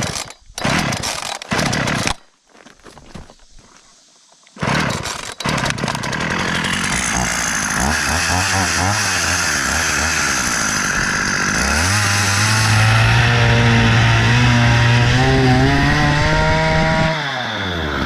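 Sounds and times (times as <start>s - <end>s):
chainsaw cutting a board: 0.0s - 2.2s, 4.6s - 18.0s.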